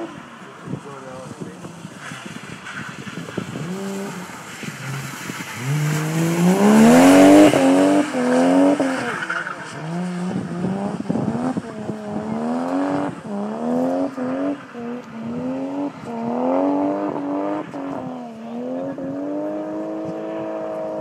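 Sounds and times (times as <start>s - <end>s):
car engine revving hard: 3.4s - 21.0s.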